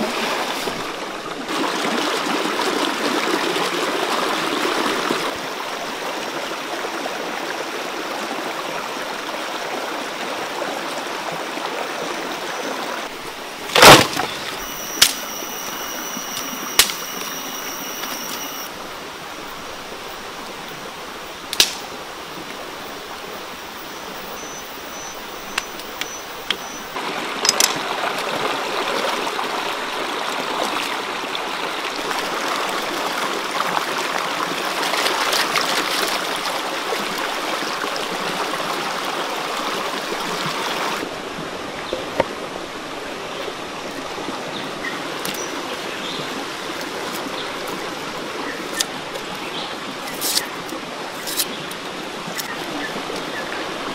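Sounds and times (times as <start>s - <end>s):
stream water rushing over rocks: 0.0s - 53.9s.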